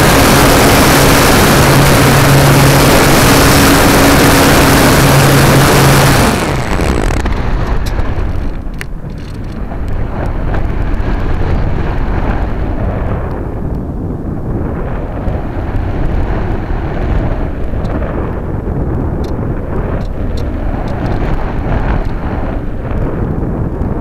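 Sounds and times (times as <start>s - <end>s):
air rushing past glider: 0.0s - 24.0s
electric motor and propeller humming: 0.0s - 24.0s.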